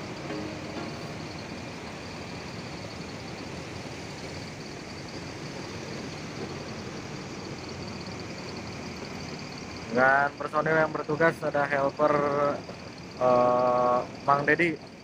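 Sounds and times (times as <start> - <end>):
diesel coach engine running: 0.0 - 15.0.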